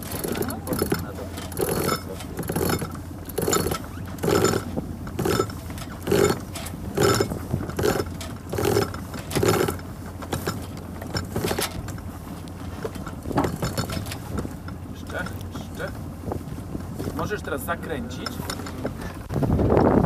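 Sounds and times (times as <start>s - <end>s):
winch ratcheting: 0.0s - 19.9s
steady low rumble: 0.0s - 20.0s.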